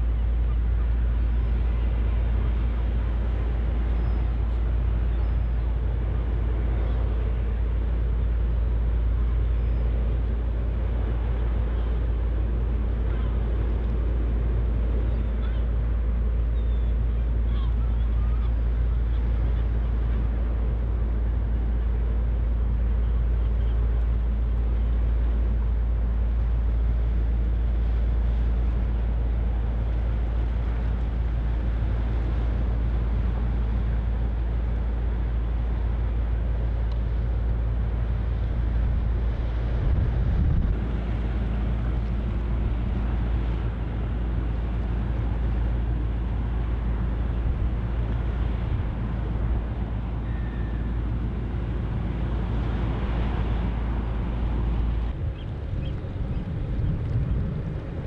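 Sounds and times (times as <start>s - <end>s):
low rumble: 0.0s - 58.0s
ship diesel engines droning: 0.0s - 58.0s.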